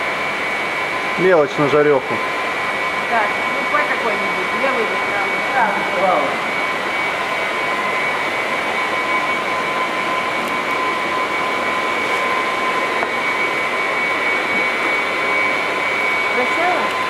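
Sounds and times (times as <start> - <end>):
pump machine drone with whine: 0.0 - 17.0.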